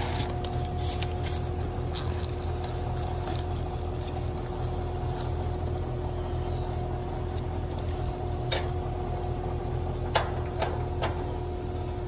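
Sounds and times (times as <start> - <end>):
heat pump humming: 0.0 - 12.0.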